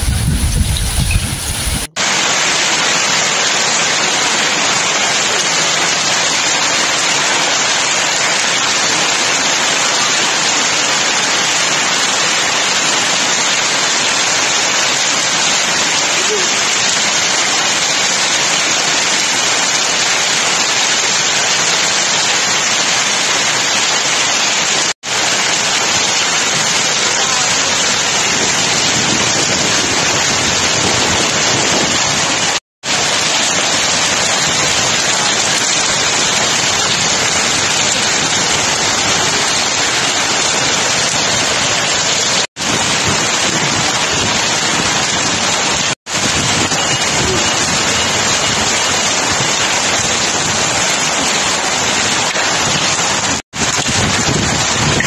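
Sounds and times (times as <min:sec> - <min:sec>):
heavy hail pelting a street: 0:00.0 - 0:55.0.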